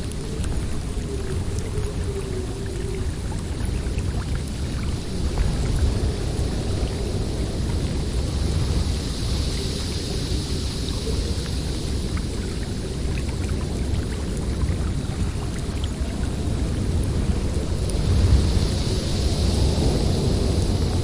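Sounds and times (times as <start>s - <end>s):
snowstorm wind blowing: 0.0s - 21.0s.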